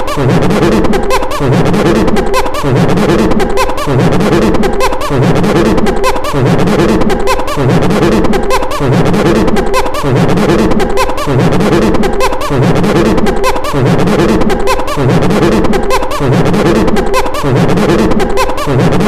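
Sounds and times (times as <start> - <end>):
loud repeating pattern: 0.0 - 19.0
man making filtered monkey noises: 0.0 - 19.0.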